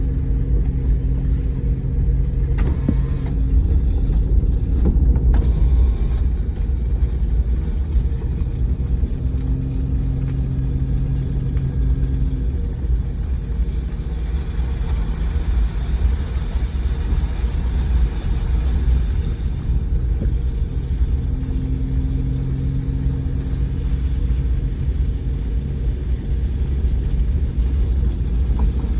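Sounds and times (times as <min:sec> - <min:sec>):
engine rumbling: 0:00.0 - 0:28.9
low hum: 0:00.0 - 0:28.9.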